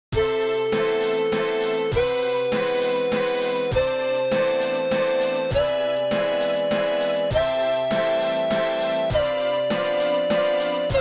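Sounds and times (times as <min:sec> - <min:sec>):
instrumental music with held note: 0:00.2 - 0:11.0
steady beat of strikes: 0:00.2 - 0:11.0.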